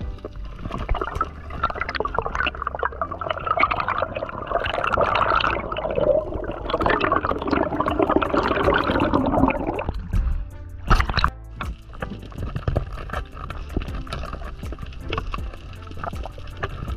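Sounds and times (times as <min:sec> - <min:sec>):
underwater gurgling and bubbling: 0:00.0 - 0:16.9.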